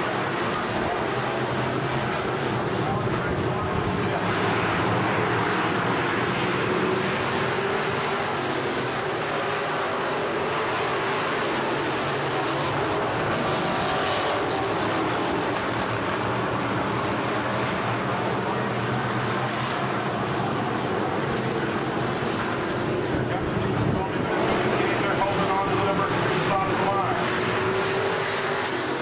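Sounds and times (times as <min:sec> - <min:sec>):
race car engines: 0:00.0 - 0:29.0.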